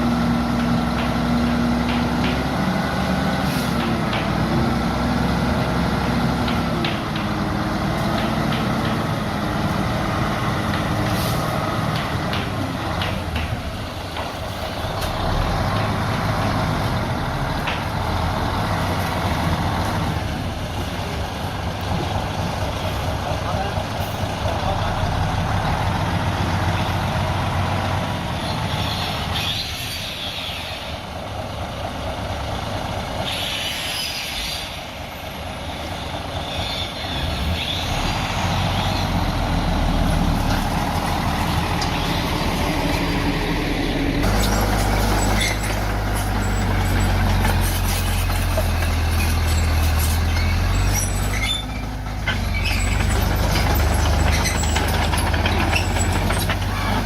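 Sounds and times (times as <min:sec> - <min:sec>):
bulldozer diesel engine: 0:00.0 - 0:57.0
dump truck diesel engine: 0:00.0 - 0:57.0.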